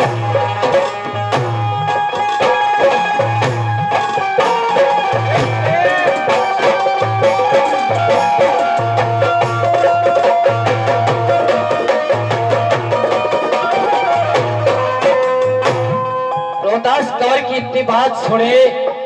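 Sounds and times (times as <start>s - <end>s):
barrel drum beat: 0.0s - 16.8s
electronic keyboard melody: 0.0s - 19.0s.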